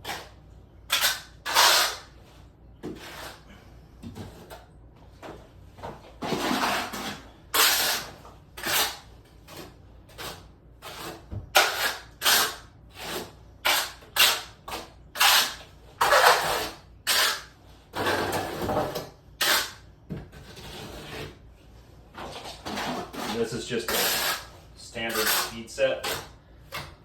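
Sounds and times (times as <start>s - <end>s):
trowel scraping mortar: 0.0s - 2.2s, 2.8s - 4.6s, 6.2s - 19.8s, 20.4s - 21.4s, 22.3s - 26.4s.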